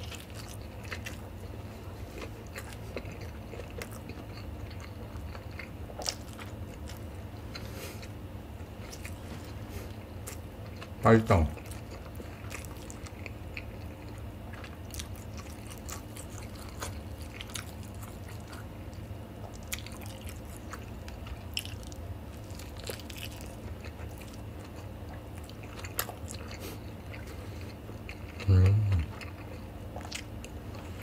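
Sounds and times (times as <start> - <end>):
close chewing: 0.0 - 31.0
low steady hum: 0.0 - 31.0.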